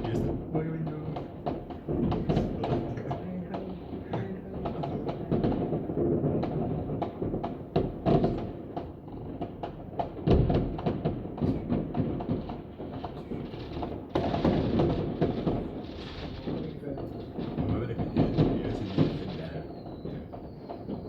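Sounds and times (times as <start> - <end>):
fireworks bangs and crackles: 0.0 - 21.0
heavy firework boom: 0.0 - 21.0.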